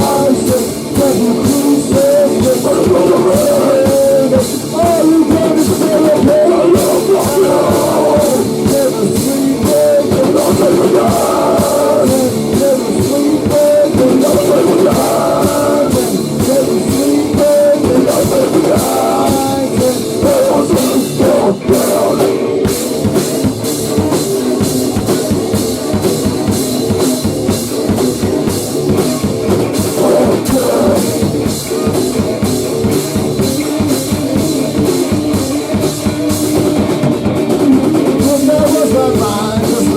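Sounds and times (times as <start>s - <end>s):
drum kit beat: 0.0s - 39.9s
guitar: 0.0s - 39.9s
rock band playing: 0.0s - 39.9s.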